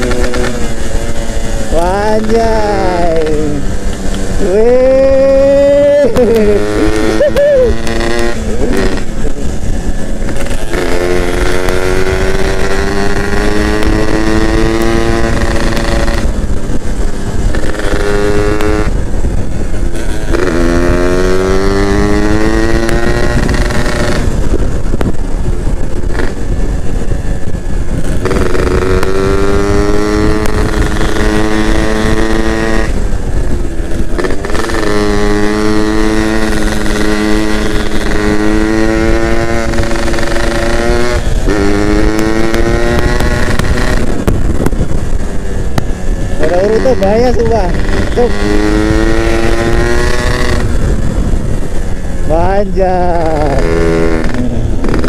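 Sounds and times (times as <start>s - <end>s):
two-stroke motorcycle engine pulling: 0.0s - 55.0s.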